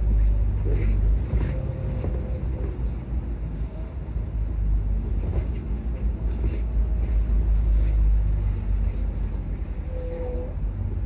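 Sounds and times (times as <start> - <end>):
bus engine rumble: 0.0 - 11.0
road noise: 0.0 - 11.0.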